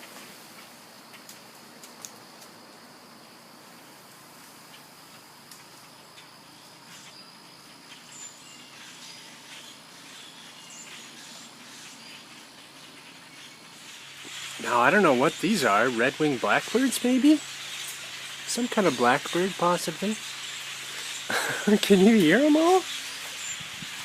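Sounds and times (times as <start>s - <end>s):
flock of birds chirping: 0.0s - 24.0s.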